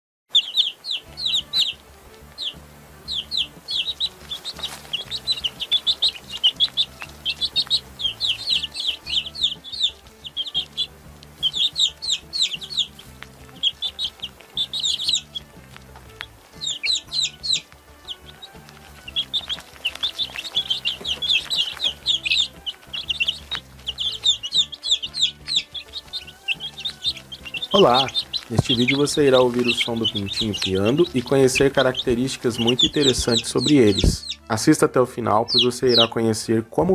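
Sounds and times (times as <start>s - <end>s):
baby chicks peeping: 0.3s - 36.9s
faint low music: 0.3s - 36.9s.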